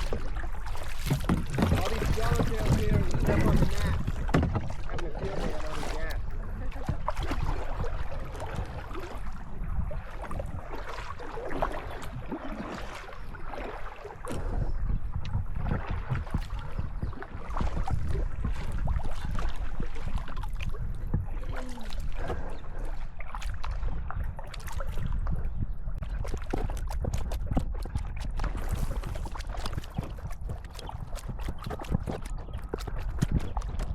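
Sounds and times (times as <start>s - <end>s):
paddle splashing and dripping: 0.0s - 33.9s
wind on microphone: 0.0s - 33.9s.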